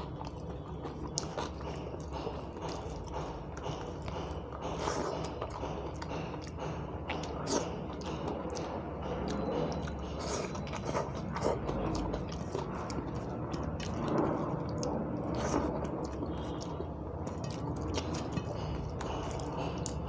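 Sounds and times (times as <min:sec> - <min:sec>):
fingers mixing rice on steel plate: 0:00.0 - 0:20.0
person chewing with mouth clicks: 0:00.0 - 0:20.0.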